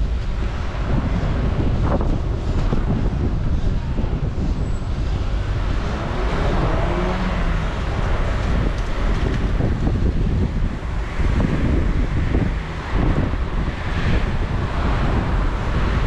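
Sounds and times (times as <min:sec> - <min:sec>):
road traffic: 0:00.0 - 0:16.0
vehicle engine: 0:00.0 - 0:16.0
wind buffeting microphone: 0:00.0 - 0:16.0.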